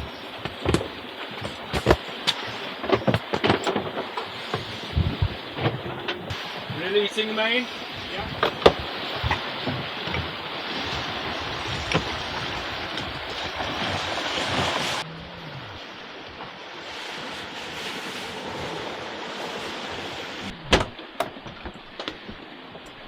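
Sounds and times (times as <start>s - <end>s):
wind and water rushing: 0.0s - 23.0s.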